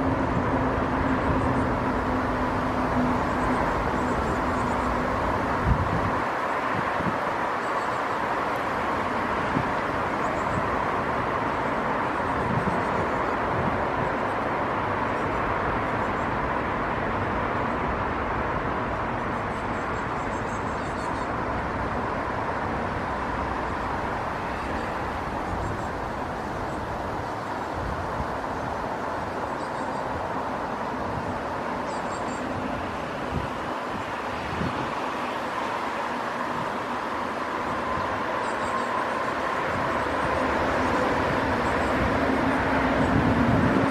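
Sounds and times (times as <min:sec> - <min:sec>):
distant road traffic: 0:00.0 - 0:43.9.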